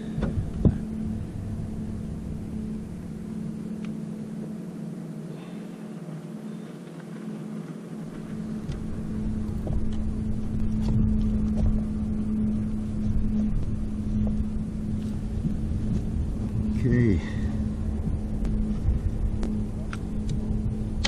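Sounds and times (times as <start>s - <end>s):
engine-like hum: 0.0s - 21.0s
low rumble: 0.0s - 21.0s.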